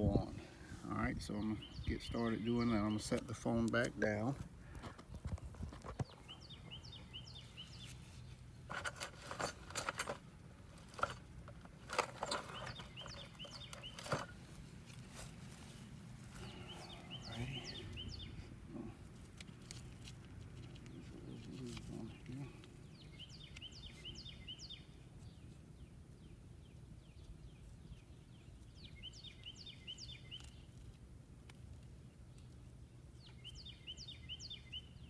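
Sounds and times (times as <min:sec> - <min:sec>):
songbird chirping: 0:00.0 - 0:31.0, 0:32.1 - 0:35.0.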